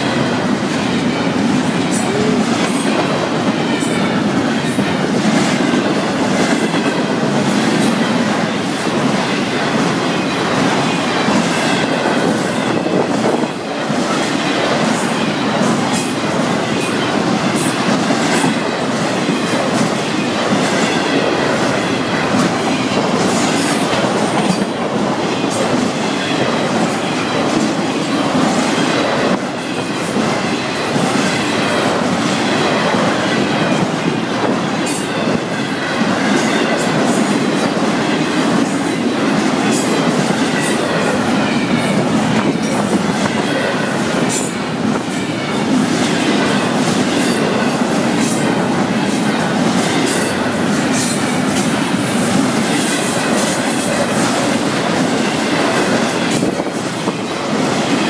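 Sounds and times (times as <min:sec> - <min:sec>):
clickety-clack over rail joints: 0:00.0 - 0:58.0
train wheels rumbling on rail: 0:00.0 - 0:58.0.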